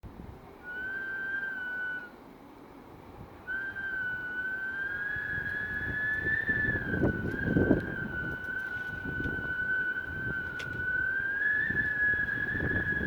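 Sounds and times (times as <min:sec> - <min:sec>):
low rumble of wind: 0:00.0 - 0:13.0
wind whistling through door gap: 0:00.0 - 0:13.0.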